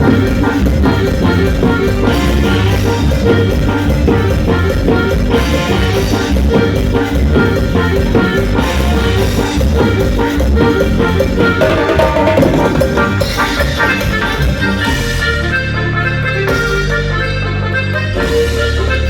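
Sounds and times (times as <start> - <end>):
latin dance music: 0.0 - 19.0.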